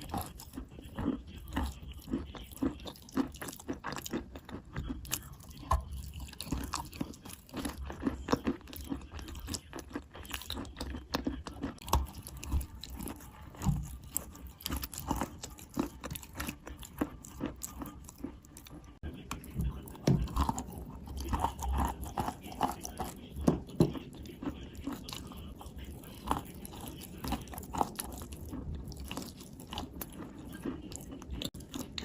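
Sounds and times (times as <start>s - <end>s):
crunching and chewing chalk: 0.0s - 32.0s.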